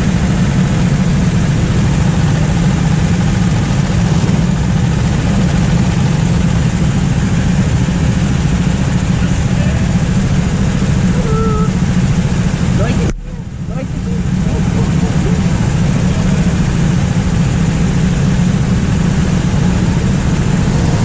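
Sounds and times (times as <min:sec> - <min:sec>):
go-kart engine idling: 0:00.0 - 0:21.0.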